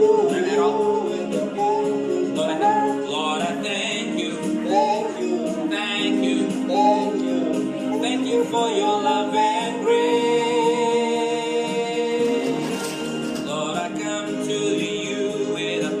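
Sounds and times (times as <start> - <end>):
band playing and singing: 0.0 - 16.0.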